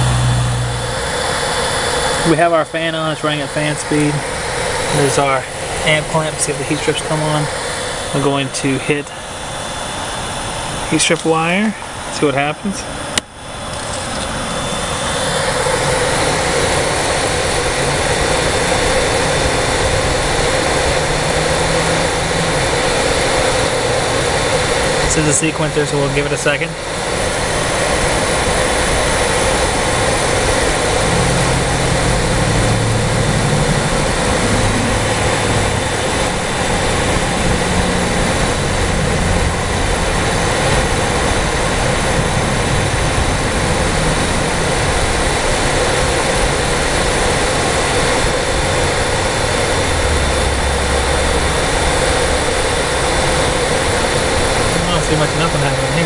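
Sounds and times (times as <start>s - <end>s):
faint steady tones: 0.0s - 56.0s
fan blowing air: 0.0s - 56.0s.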